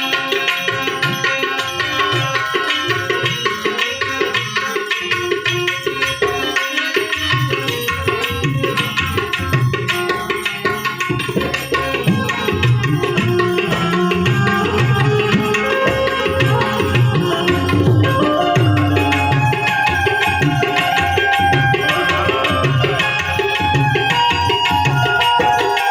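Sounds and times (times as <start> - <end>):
harmonium melody: 0.0 - 25.9
tabla playing steady rhythm: 0.0 - 25.9.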